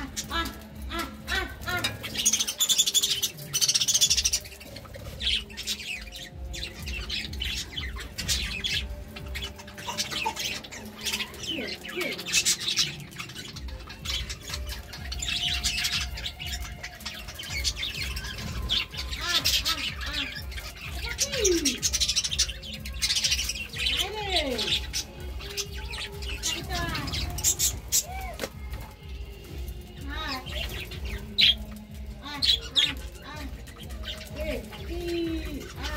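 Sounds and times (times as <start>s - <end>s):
budgerigars chattering and twittering: 0.0s - 35.9s.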